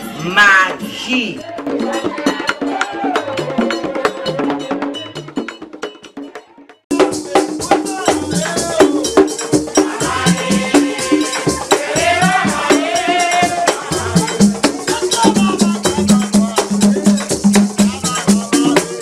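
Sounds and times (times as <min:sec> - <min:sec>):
fast shaker rhythm: 0:00.9 - 0:19.0.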